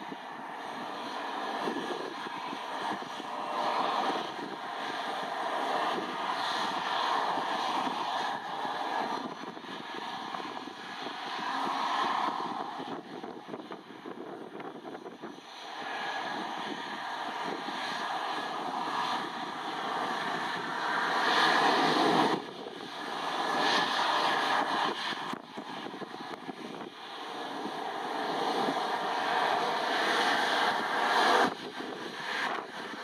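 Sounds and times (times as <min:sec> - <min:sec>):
jet airliner engine rushing: 0:00.0 - 0:33.0
wind on microphone: 0:00.0 - 0:33.0.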